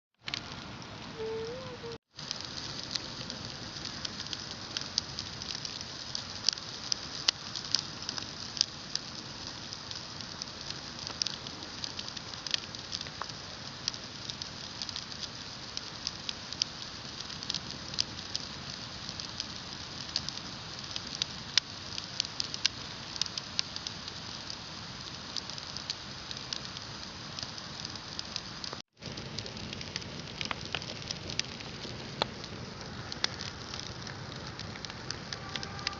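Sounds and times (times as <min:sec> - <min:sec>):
bonfire crackling and popping: 0:00.2 - 0:35.9.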